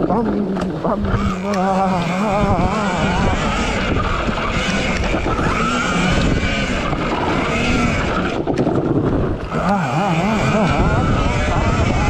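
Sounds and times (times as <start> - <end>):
electric motor whine: 0.0 - 12.0
wind buffeting microphone: 0.0 - 12.0.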